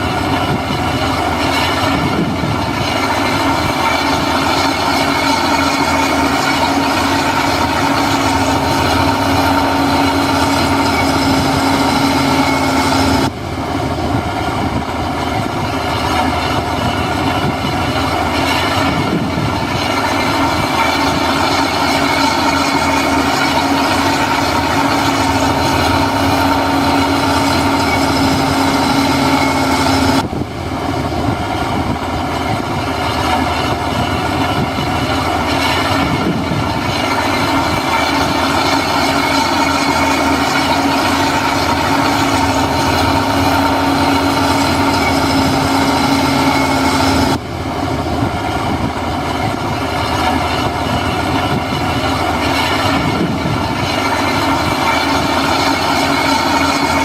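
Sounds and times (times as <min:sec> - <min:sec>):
construction machinery diesel drone: 0:00.0 - 0:57.0
dense rattling clatter: 0:00.0 - 0:57.0.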